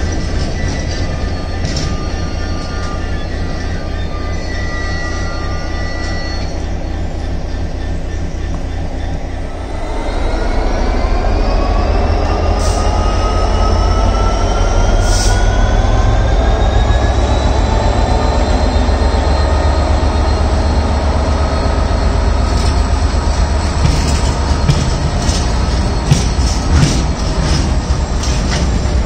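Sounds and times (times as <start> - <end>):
diesel locomotive engine rumble: 0.0 - 29.0
rising locomotive whine: 0.0 - 29.0.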